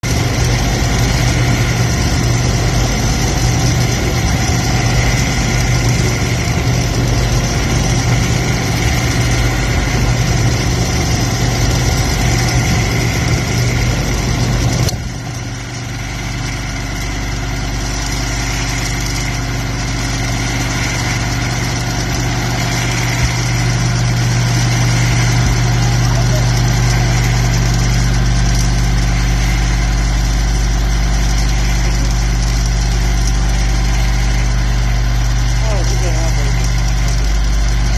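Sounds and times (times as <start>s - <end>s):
dishwasher pump hum: 0.0s - 37.9s.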